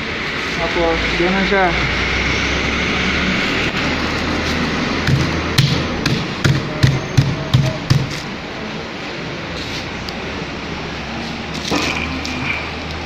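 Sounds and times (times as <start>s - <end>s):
background noise: 0.0s - 13.0s.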